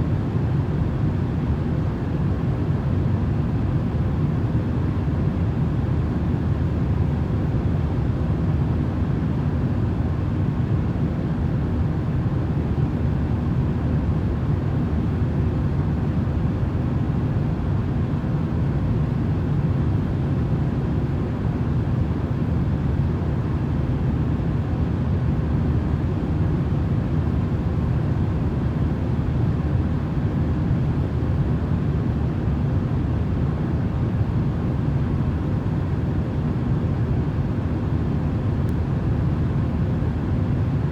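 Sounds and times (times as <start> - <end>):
faint steady hums: 0.0 - 40.9
low white-noise drone: 0.0 - 40.9.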